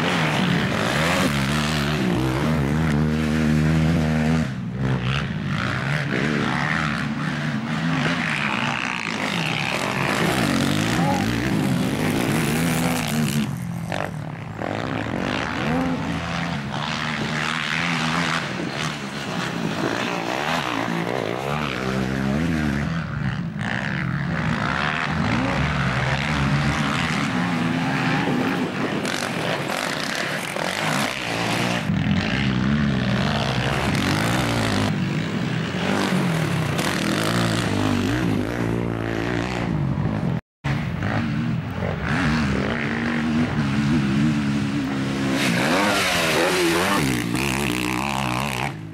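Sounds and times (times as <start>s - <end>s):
quad bike engines revving: 0.0s - 48.9s.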